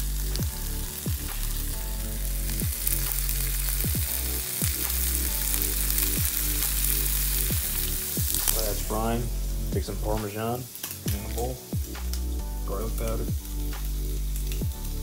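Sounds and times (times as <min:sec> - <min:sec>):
background music with sliding bass: 0:00.0 - 0:15.0
ham sizzling in a frying pan: 0:00.0 - 0:15.0.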